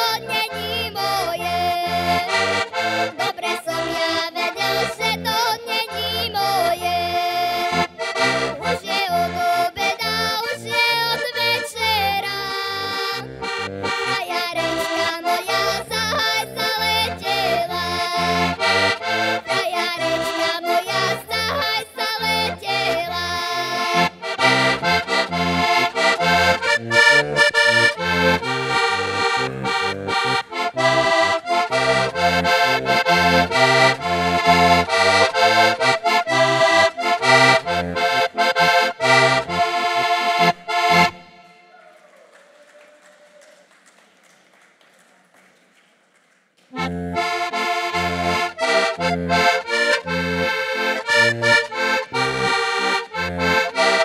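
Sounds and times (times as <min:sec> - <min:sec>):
button accordion folk tune: 0:00.0 - 0:41.7, 0:46.7 - 0:54.0.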